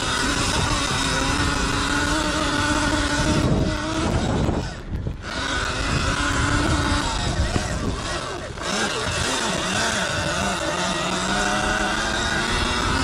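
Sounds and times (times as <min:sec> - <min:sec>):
electric motor whining: 0:00.0 - 0:13.0
tyres on sandy track: 0:00.0 - 0:13.0
wind rumble: 0:00.0 - 0:13.0.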